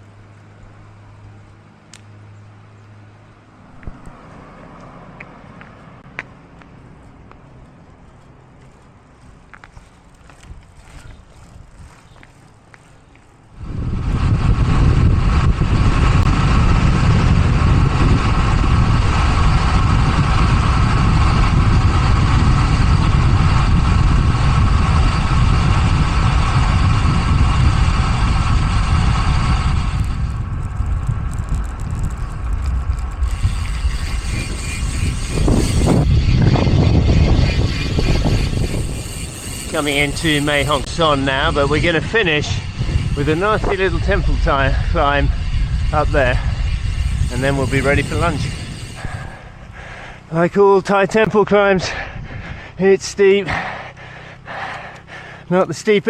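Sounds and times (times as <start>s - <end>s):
tyre hum on road: 3.6s - 51.6s
wind roaring on microphone: 6.9s - 56.0s.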